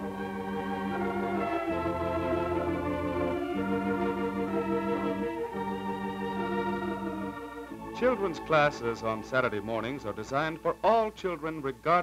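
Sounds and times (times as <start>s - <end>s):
sustained organ chords: 0.0s - 12.0s.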